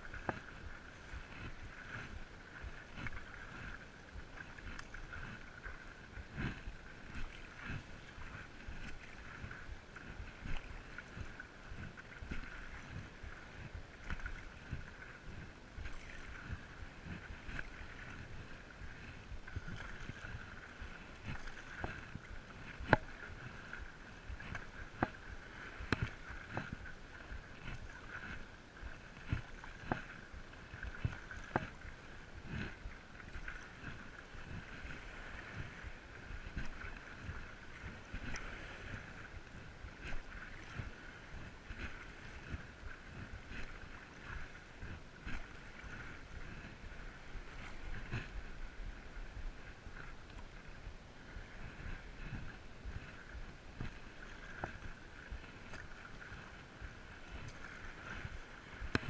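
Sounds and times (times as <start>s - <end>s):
paddle strokes splashing: 0.0s - 59.0s
water lapping: 0.0s - 59.0s.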